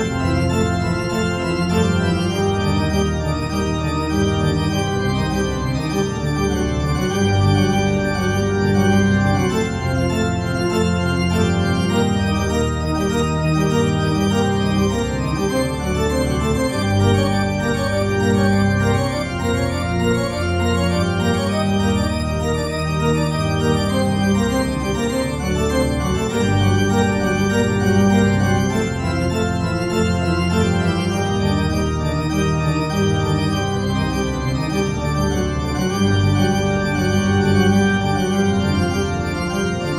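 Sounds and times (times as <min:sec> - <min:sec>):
organ playing slow chords: 0:00.0 - 0:39.9.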